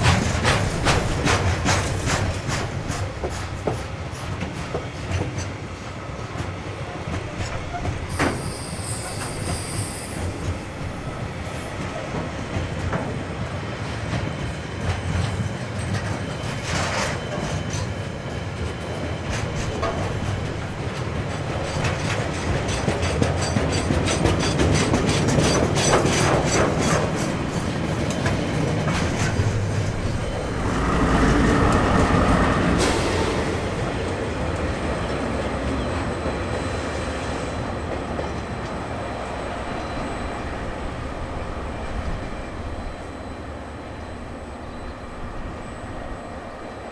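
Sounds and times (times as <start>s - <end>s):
train wheels clacking over rails: 0.0s - 39.6s.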